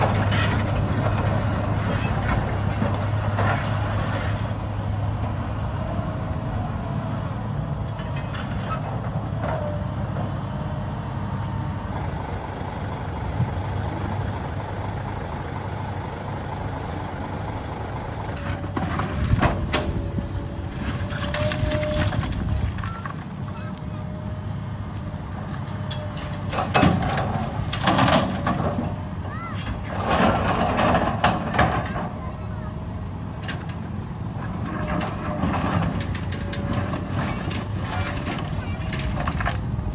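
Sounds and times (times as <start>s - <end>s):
diesel machinery humming: 0.0s - 39.9s.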